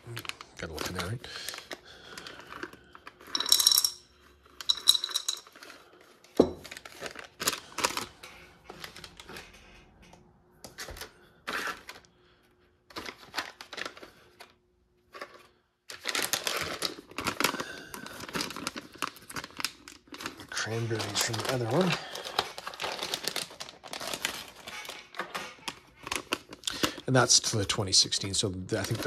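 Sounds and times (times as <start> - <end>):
plastic packets rustling: 0.0 - 9.9, 10.7 - 29.0.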